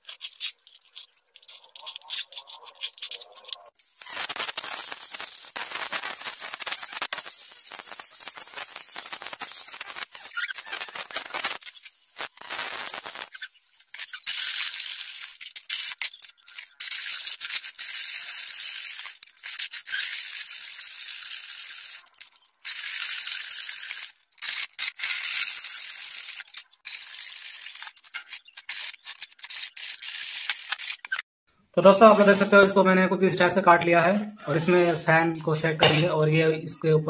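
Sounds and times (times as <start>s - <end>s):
rotary tool cutting metal: 0.0s - 31.2s.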